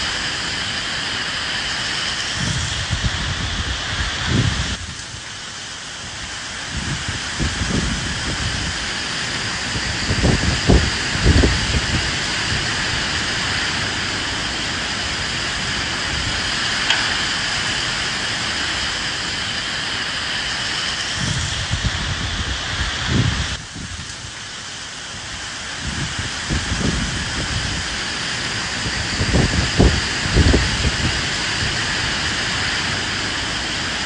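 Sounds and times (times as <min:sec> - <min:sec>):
steady rain: 0:00.0 - 0:34.0
wind gusts rumbling: 0:00.0 - 0:34.0.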